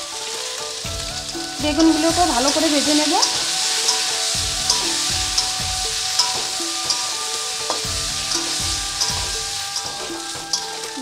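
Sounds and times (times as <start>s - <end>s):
background music: 0.0s - 11.0s
eggplant sizzling in hot oil: 0.0s - 11.0s
metal spatula scraping pan: 1.8s - 11.0s.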